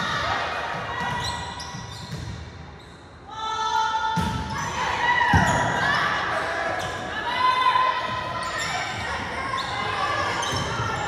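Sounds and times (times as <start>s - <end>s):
voices calling in echoing hall: 0.0s - 2.1s, 3.0s - 11.0s.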